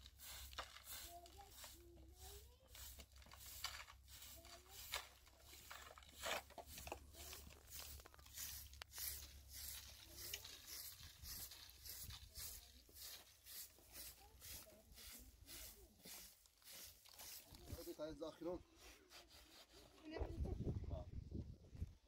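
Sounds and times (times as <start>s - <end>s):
trowel scraping: 0.0s - 18.0s.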